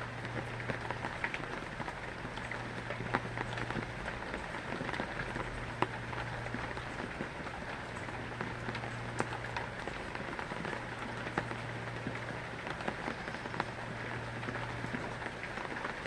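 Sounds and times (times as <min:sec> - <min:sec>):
heavy rain falling: 0:00.0 - 0:16.0
sharp drips: 0:00.0 - 0:16.0.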